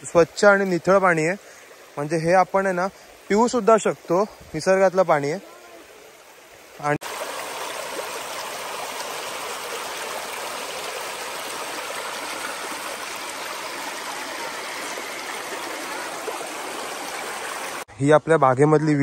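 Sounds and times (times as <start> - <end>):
stream rushing over rocks: 0.0 - 17.9.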